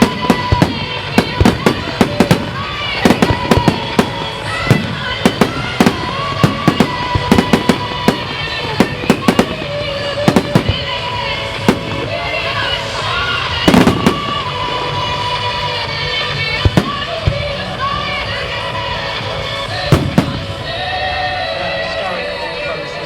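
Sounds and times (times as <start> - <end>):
fireworks bangs and crackles: 0.0 - 21.4
music playing: 0.0 - 23.0.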